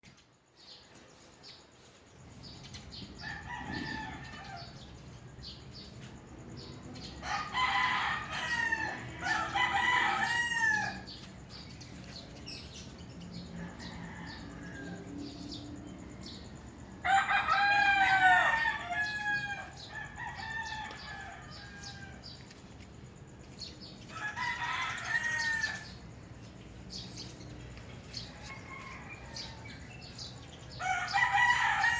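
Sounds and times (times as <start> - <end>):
small birds chirping: 0.0 - 31.9
roosters crowing: 2.9 - 22.6, 23.2 - 31.9.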